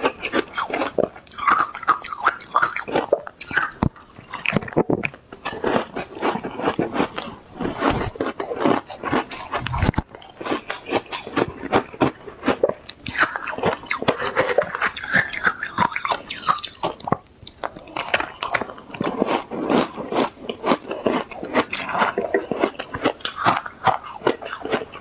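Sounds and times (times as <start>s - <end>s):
person chewing ice: 0.0s - 25.0s.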